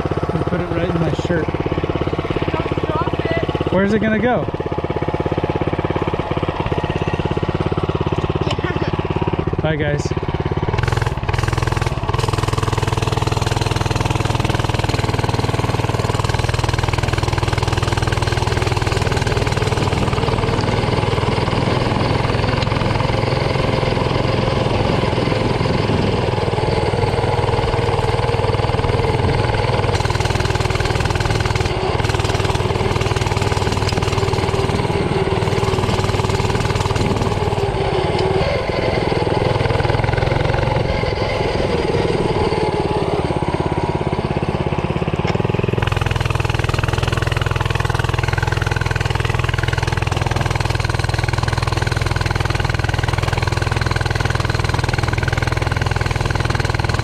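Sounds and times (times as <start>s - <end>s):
mini bike engine running: 0.0s - 57.0s.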